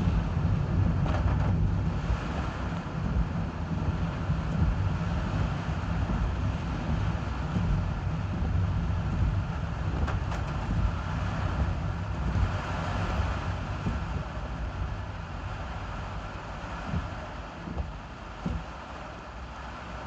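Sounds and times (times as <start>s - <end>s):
road and wind rumble: 0.0s - 20.0s.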